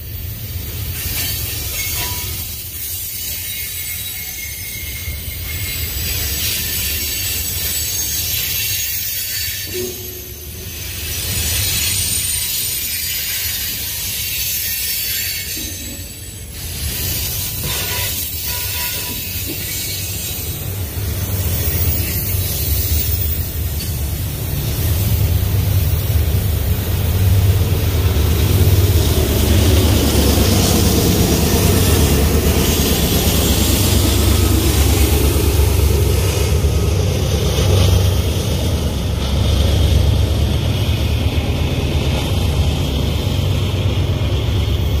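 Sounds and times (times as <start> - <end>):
diesel locomotive engine drone: 0.0 - 45.0
freight train wheels on rails: 0.0 - 45.0.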